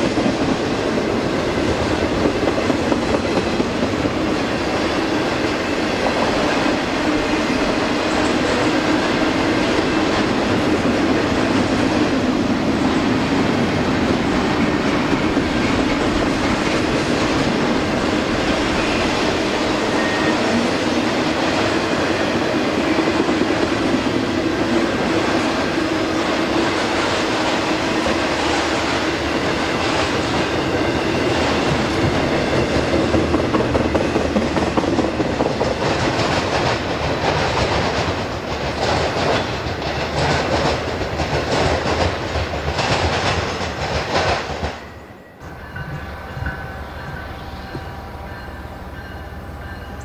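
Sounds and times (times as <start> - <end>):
freight train clattering over rails: 0.0 - 50.0.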